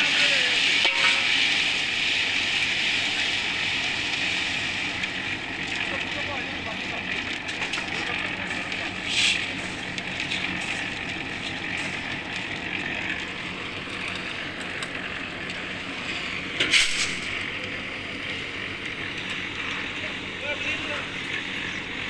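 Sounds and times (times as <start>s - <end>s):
machine running steadily: 0.0s - 22.0s.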